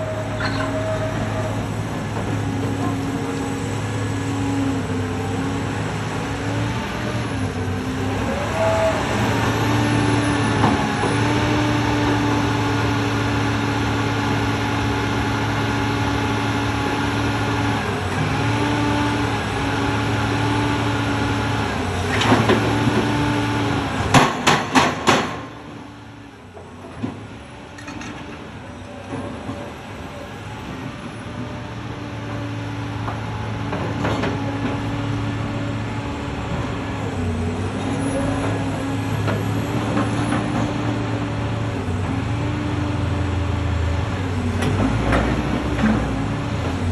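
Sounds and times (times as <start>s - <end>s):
diesel construction machine running: 0.0s - 46.9s.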